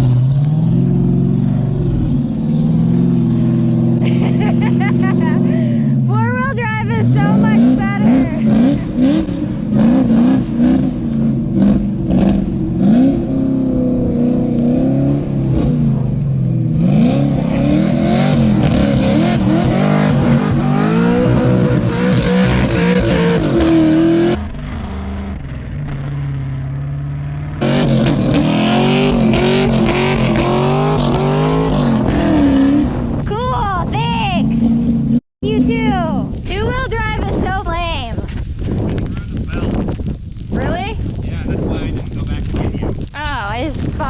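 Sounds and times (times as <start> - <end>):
car engine revving: 0.0 - 36.6.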